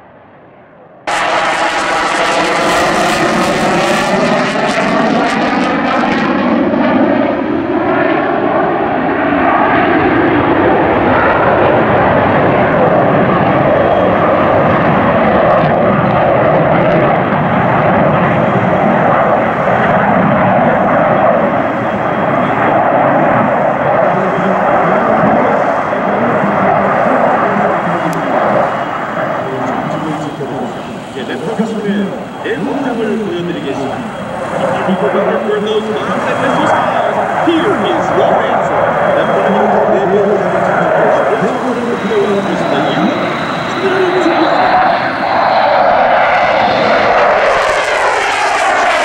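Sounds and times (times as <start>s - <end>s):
jet engine noise: 0.0s - 49.0s
phasing whoosh of passing jet: 1.0s - 49.0s.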